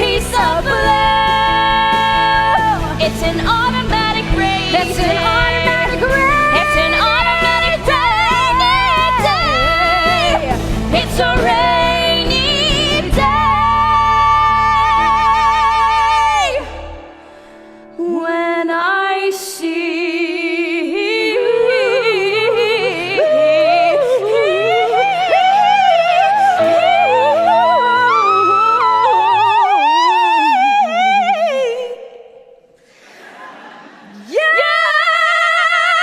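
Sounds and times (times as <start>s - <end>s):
woman singing with vibrato: 0.0s - 17.0s, 18.0s - 32.7s, 34.1s - 36.0s.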